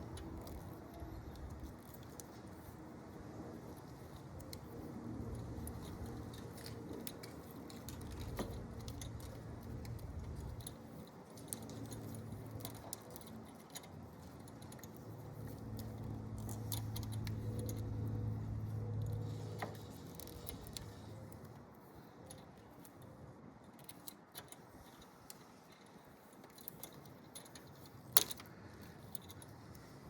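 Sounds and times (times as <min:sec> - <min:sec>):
low steady hum: 0:00.0 - 0:30.0
small clicks and metallic clinks: 0:00.0 - 0:30.0.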